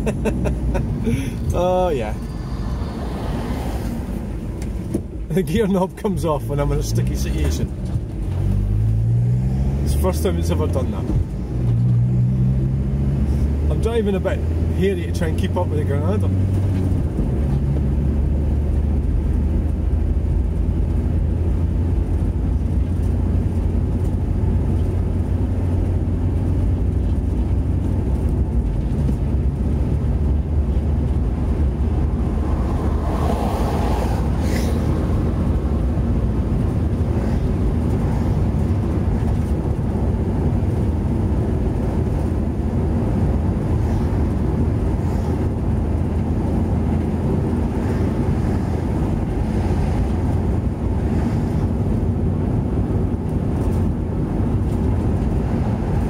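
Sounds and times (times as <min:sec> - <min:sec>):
car engine and road noise drone: 0:00.0 - 0:56.0.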